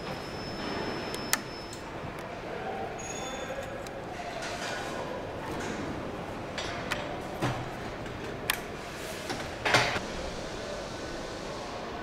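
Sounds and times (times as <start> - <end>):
factory background noise: 0.0 - 12.0.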